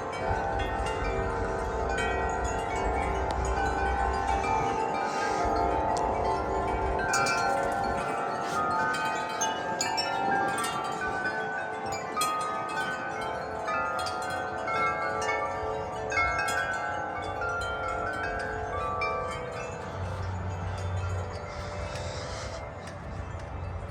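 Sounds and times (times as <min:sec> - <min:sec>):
wind chimes ringing: 0:00.0 - 0:23.9
wind rumble on microphone: 0:00.0 - 0:23.9.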